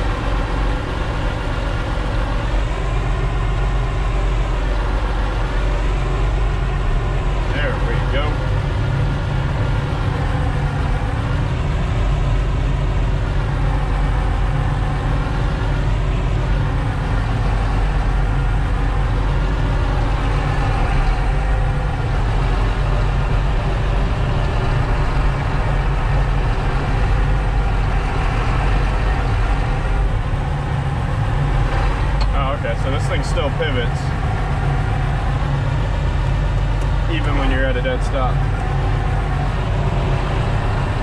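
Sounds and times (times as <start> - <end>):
diesel tractor engine droning: 0.0 - 41.0.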